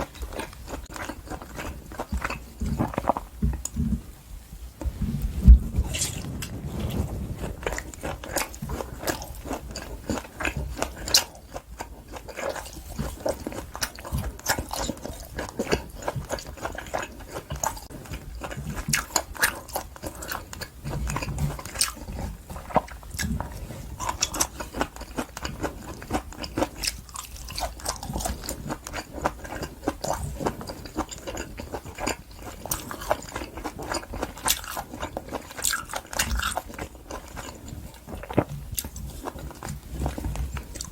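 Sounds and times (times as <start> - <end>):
wet chewing of meat: 0.0 - 4.2, 4.8 - 40.9.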